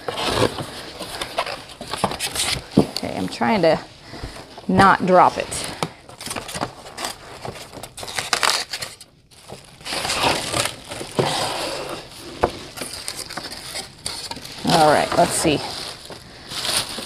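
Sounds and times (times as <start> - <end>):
cardboard flaps scraping: 0.0 - 2.9, 5.3 - 17.0
plastic wrapping crinkling: 0.0 - 17.0.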